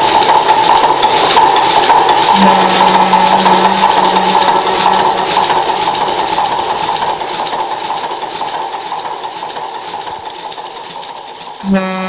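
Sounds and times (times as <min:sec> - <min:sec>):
machinery rattling: 0:00.0 - 0:11.7
film soundtrack crackle: 0:00.1 - 0:12.0.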